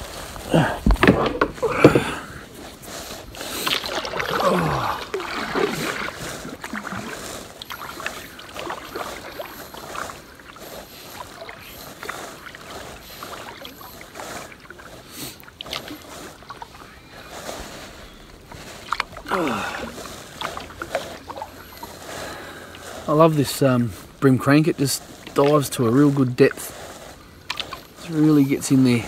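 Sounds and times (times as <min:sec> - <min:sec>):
water splashing along kayak hull: 0:00.0 - 0:29.0.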